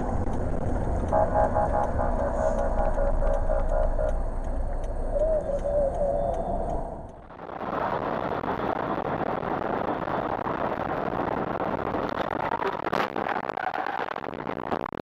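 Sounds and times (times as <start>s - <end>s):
car road and wind noise: 0.0s - 14.9s.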